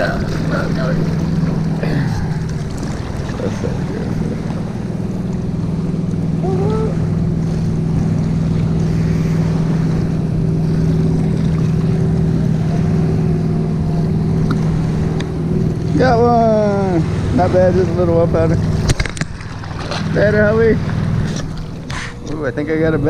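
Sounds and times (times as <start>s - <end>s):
motorboat engine drone: 0.0s - 23.0s
wind buffeting microphone: 0.0s - 23.0s.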